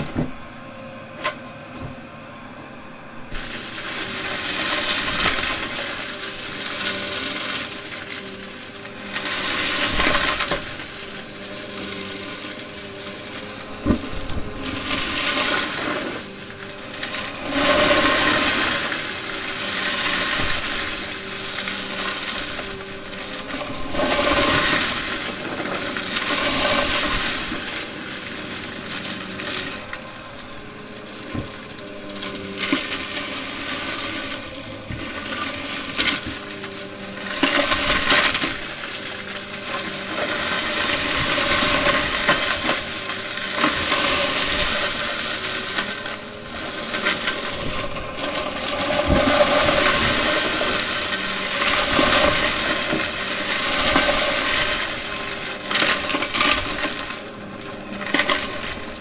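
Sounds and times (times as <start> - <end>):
vacuum cleaner motor whine: 0.0 - 59.0
debris rattling through hose: 3.3 - 59.0.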